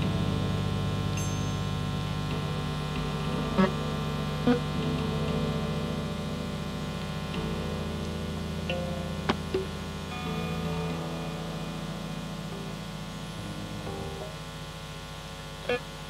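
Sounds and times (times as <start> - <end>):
droning post-rock music: 0.0 - 16.0.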